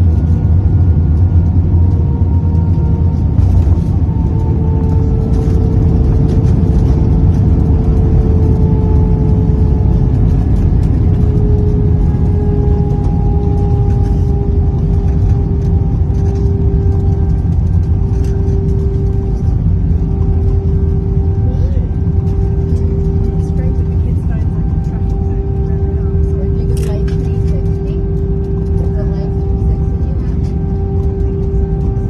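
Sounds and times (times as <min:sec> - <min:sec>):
jet engine rumble and whine: 0:00.0 - 0:32.0.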